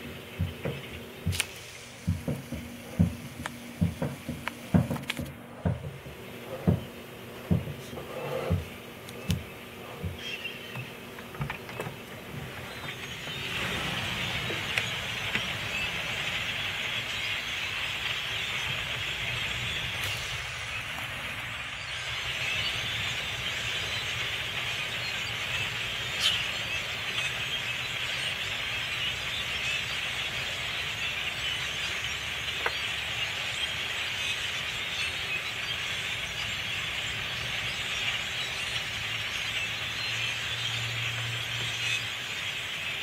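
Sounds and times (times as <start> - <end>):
flock of birds chattering: 0.0 - 43.0.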